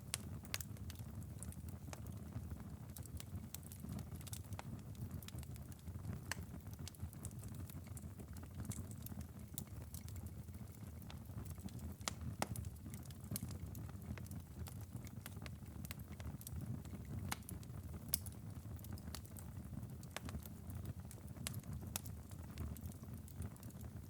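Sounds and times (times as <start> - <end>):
low fire rumble: 0.0 - 24.0.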